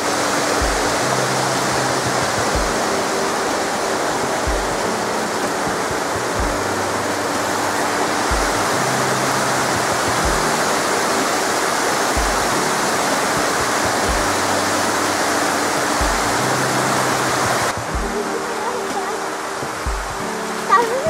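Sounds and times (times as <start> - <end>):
mountain stream rushing: 0.0 - 21.0
music with slow bass beat: 0.0 - 21.0.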